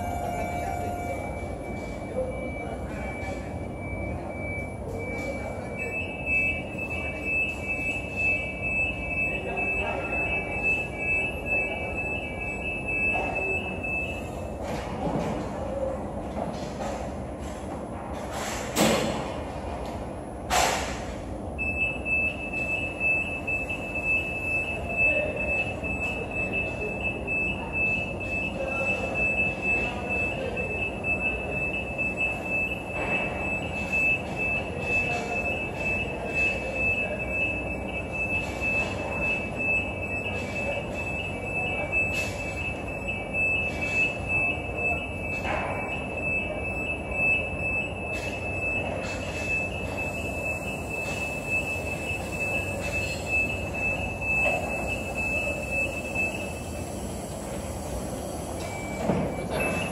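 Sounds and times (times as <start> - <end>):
high electronic warning tone: 0.0 - 14.6, 21.6 - 59.9.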